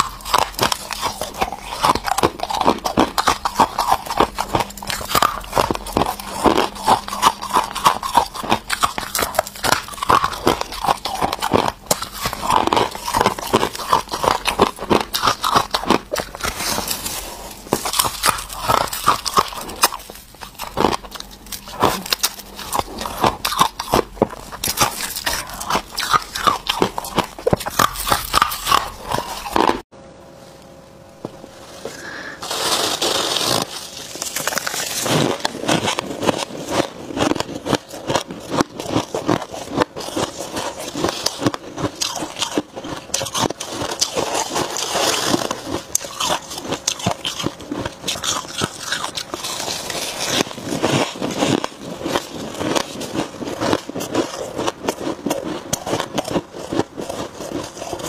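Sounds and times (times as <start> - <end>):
frost crunching when chewed: 0.0 - 29.9, 31.4 - 58.0.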